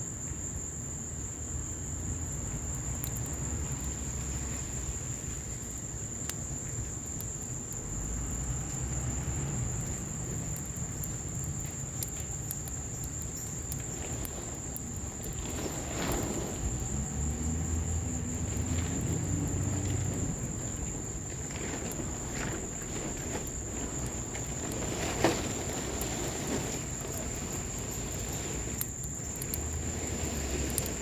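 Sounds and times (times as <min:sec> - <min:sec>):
insect trill: 0:00.0 - 0:31.0
wood fire crackling and popping: 0:00.0 - 0:31.0
rain falling: 0:02.0 - 0:31.0.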